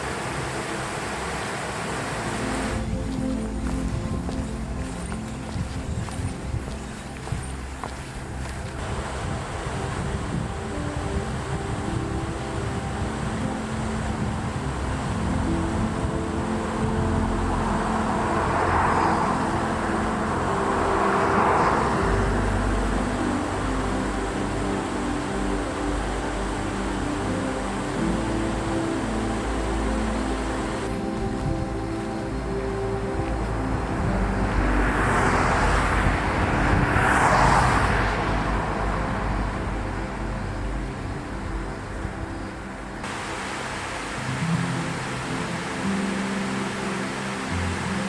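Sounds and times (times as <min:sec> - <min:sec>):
music of sustained low notes: 0:00.0 - 0:48.0
road vehicle passing by: 0:00.0 - 0:48.0
rushing noise: 0:00.0 - 0:48.0.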